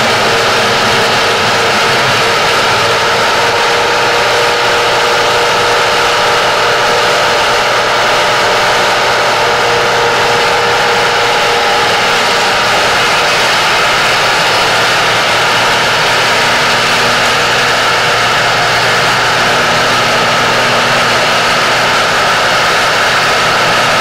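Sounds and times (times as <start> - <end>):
harvester engine and machinery whine: 0.0 - 24.0.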